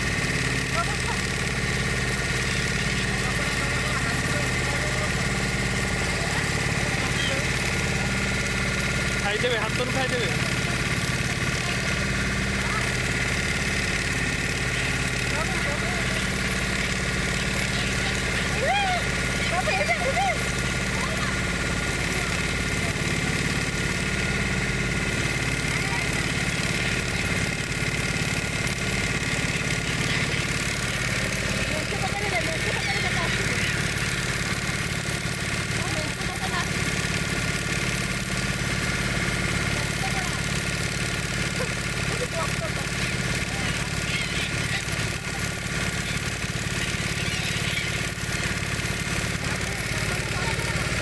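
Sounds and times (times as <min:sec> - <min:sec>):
motorboat engine running: 0:00.0 - 0:51.0.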